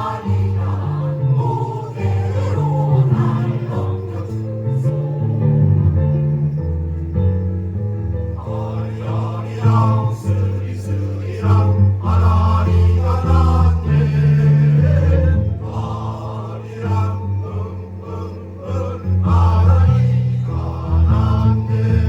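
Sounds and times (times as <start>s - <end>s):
choir singing: 0.0s - 6.4s, 8.3s - 22.0s.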